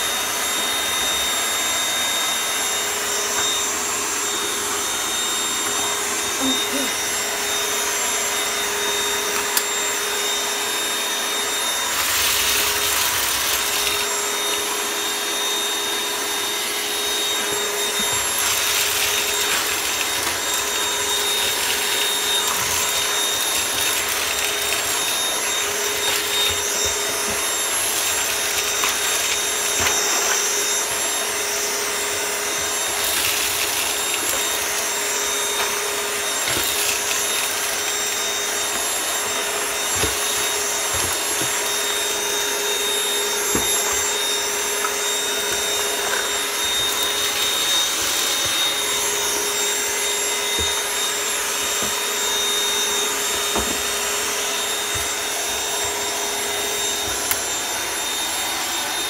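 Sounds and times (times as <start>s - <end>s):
cordless vacuum cleaner whining: 0.0s - 59.0s.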